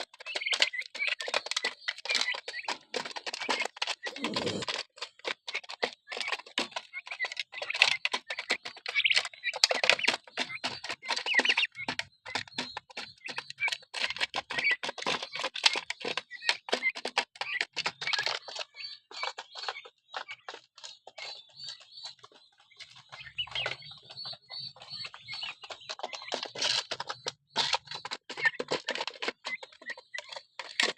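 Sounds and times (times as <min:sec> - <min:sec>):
beaks pecking feed: 0:00.0 - 0:30.9
high peeping calls: 0:00.0 - 0:30.9.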